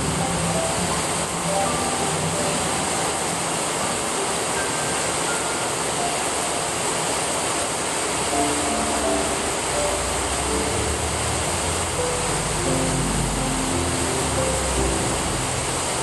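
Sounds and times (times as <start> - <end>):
gentle background music: 0.0 - 16.0
rain falling: 0.0 - 16.0.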